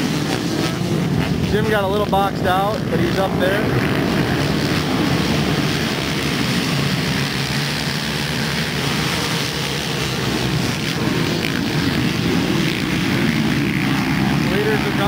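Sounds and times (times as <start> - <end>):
motocross bikes racing: 0.0 - 15.0.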